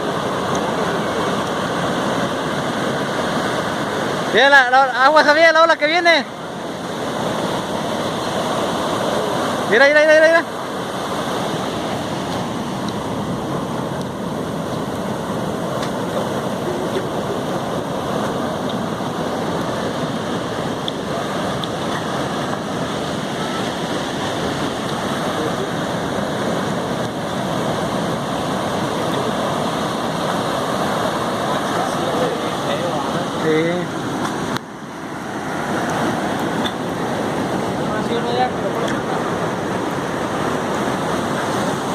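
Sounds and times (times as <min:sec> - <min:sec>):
waves breaking on shore: 0:00.0 - 0:41.9.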